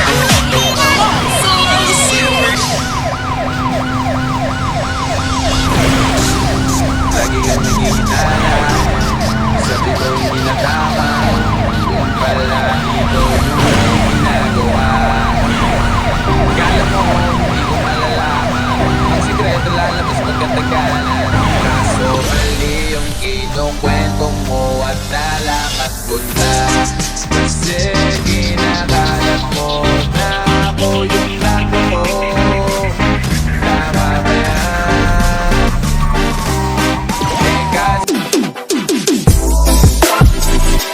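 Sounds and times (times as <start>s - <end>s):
drum beat: 0.0s - 22.0s, 23.8s - 40.9s
siren-like synth wail: 0.0s - 38.2s.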